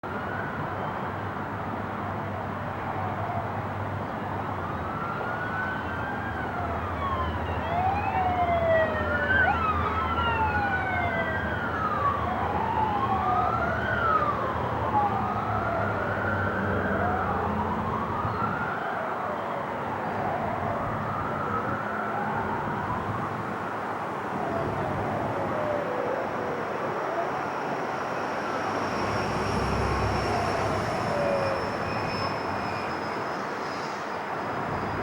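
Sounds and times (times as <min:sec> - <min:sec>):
emergency sirens wailing: 0:00.0 - 0:35.0.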